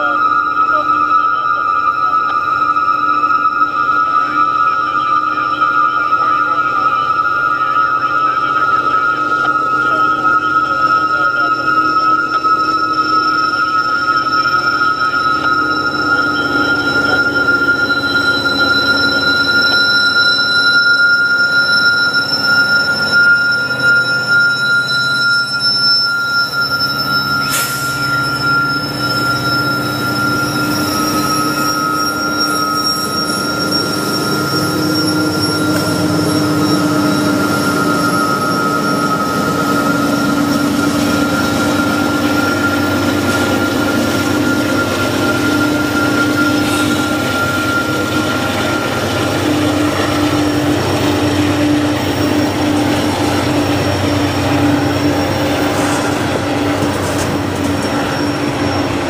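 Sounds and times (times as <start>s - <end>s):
locomotive high screaming whine: 0.0s - 59.0s.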